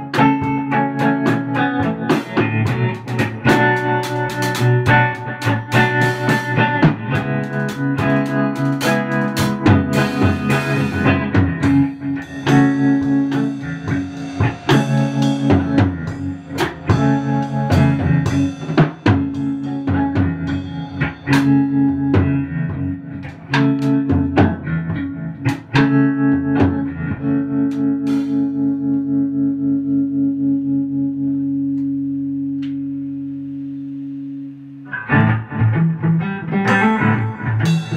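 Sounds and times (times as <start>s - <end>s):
drum kit: 0.0s - 29.2s, 35.1s - 37.9s
electric guitar: 0.0s - 37.9s.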